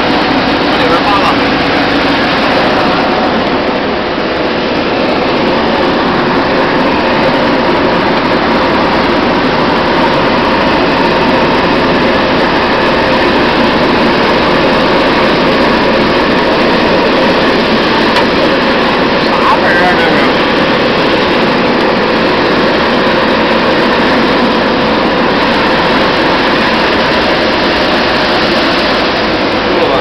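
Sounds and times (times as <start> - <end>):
seed-cleaning machine running: 0.0 - 30.0.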